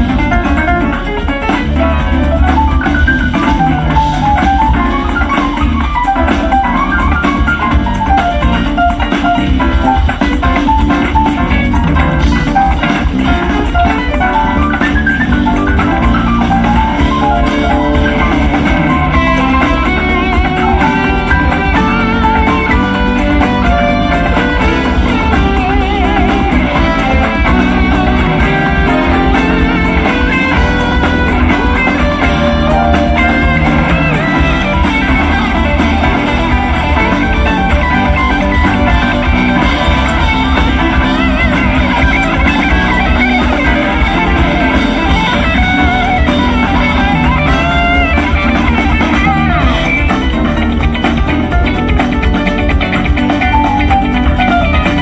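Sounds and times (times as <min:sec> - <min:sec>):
electric guitar: 0:00.0 - 0:55.0
jazz band playing: 0:00.0 - 0:55.0.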